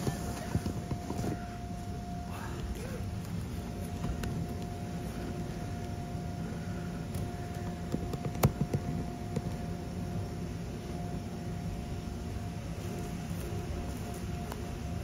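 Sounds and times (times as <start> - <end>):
low mechanical hum: 0.0 - 15.0
steady whine: 0.0 - 15.0.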